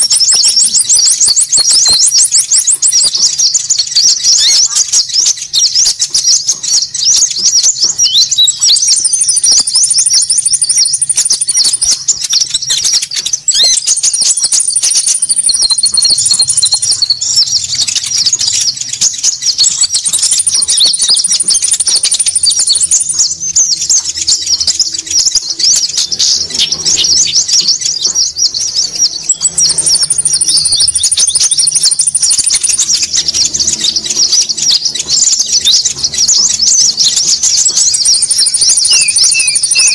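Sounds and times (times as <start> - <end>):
high bird trill: 0.0 - 39.9
small birds chattering: 0.0 - 39.9.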